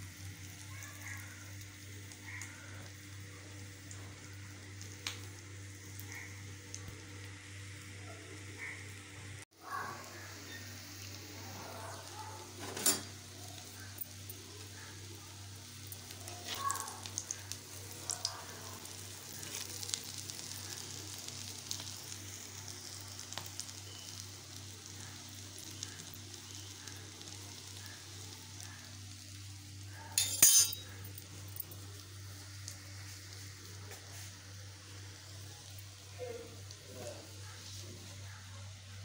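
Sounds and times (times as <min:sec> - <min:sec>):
oil sizzling: 0:00.0 - 0:39.0.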